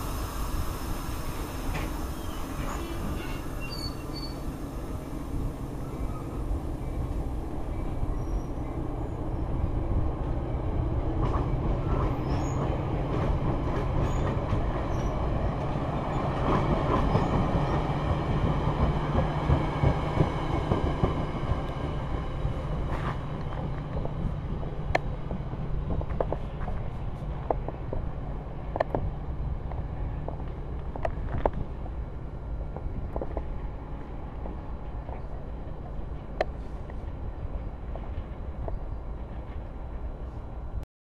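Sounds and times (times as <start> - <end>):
train wheels rumbling on rails: 0.0 - 40.8.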